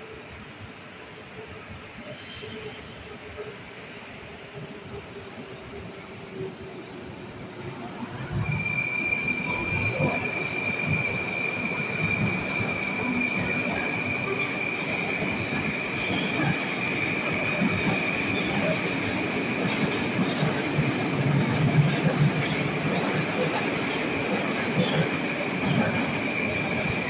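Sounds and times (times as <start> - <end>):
train high whine: 0.0 - 27.0
train low hum: 0.0 - 27.0.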